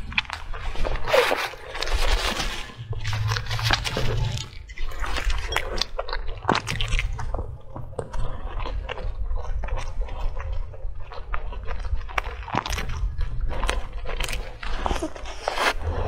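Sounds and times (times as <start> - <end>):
chewing pastry with mouth clicks: 0.0 - 16.0.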